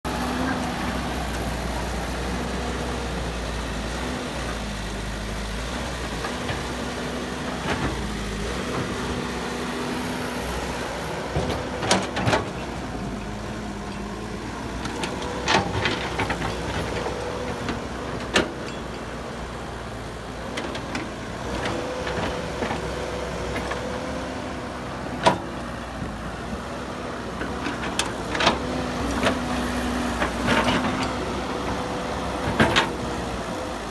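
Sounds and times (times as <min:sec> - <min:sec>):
heavy machinery engines: 0:00.1 - 0:33.9.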